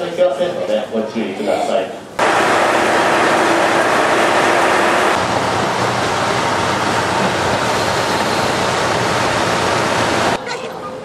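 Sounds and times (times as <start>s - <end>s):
fan noise: 0.0s - 11.0s
diesel railcar engines idling: 2.0s - 11.0s.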